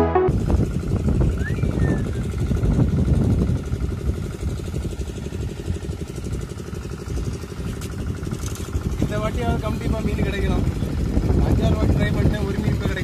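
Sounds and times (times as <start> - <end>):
engine idling: 0.3 - 13.0.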